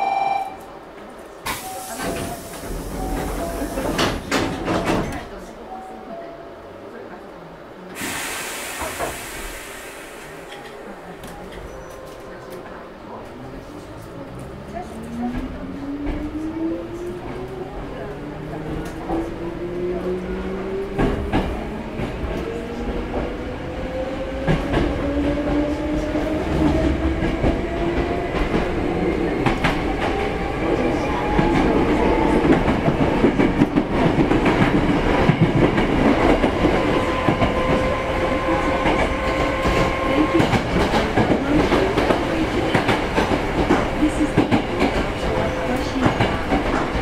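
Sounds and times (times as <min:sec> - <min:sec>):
train car rumble: 0:00.0 - 0:47.0.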